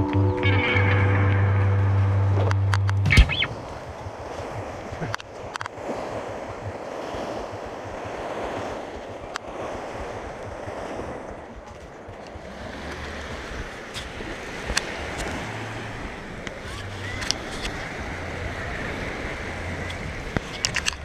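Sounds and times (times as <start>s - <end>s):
wind buffeting microphone: 2.1s - 21.0s
waves breaking on stony shore: 3.2s - 21.0s.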